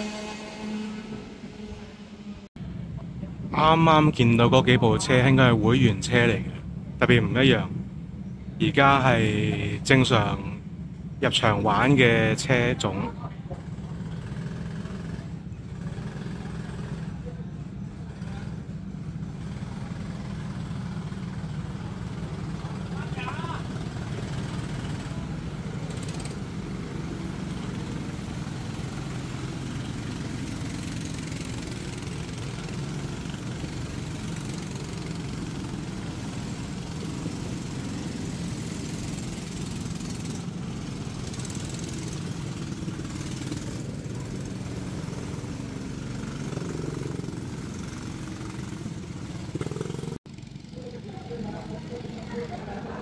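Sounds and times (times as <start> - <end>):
go-kart engines running: 2.6 - 53.0.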